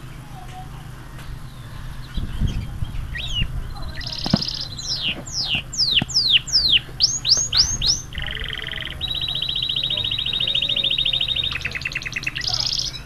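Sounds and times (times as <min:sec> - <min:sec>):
canary singing trills and whistles: 0:01.4 - 0:13.0.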